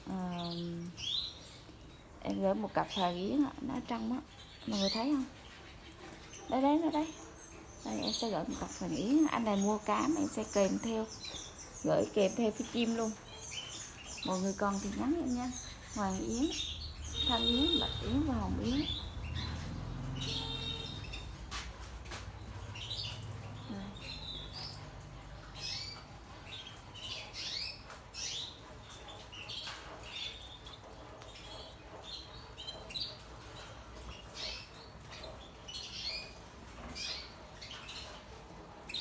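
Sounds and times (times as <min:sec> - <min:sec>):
canaries chirping: 0:00.0 - 0:39.0.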